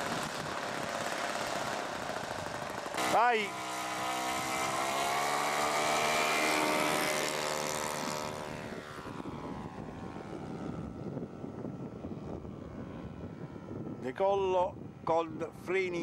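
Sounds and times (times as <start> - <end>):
model airplane engine: 0.0 - 16.0.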